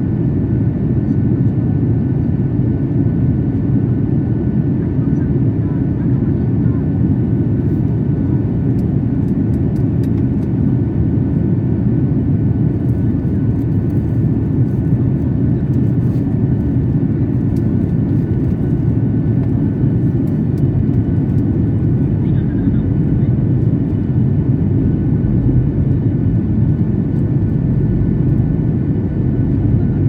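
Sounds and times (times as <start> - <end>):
airliner engines rumbling in cabin: 0.0 - 30.0.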